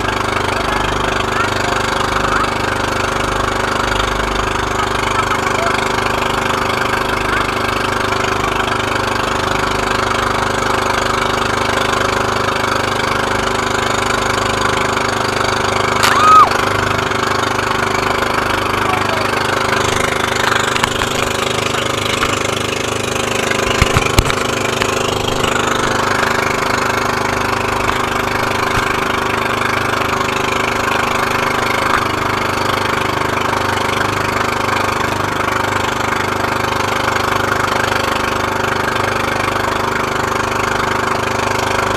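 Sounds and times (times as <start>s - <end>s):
boat engine running: 0.0s - 41.9s
water rushing along hull: 0.0s - 41.9s.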